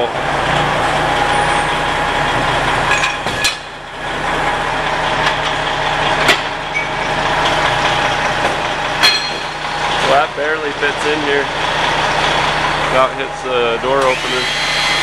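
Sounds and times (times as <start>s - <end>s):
truck engine idling: 0.0s - 14.4s.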